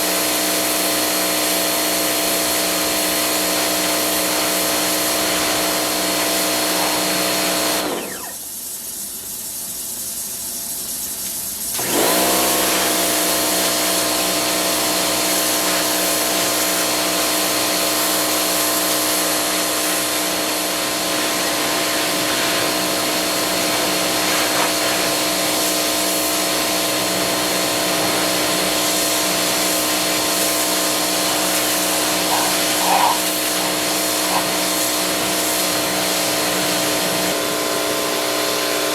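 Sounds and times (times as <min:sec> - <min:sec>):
pressure washer running: 0:00.0 - 0:08.9, 0:11.6 - 0:38.9.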